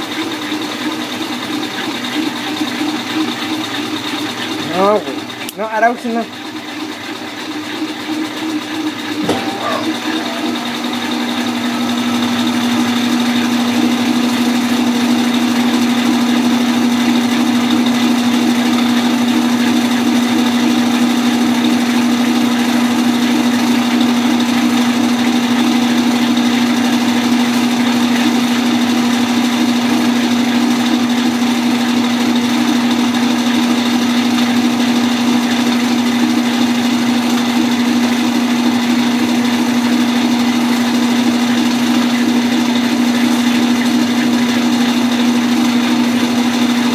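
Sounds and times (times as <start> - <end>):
washing machine humming: 0.0 - 46.9.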